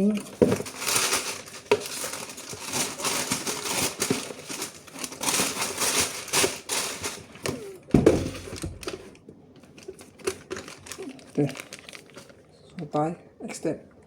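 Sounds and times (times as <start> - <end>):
paper rustling and crinkling: 0.0 - 12.5.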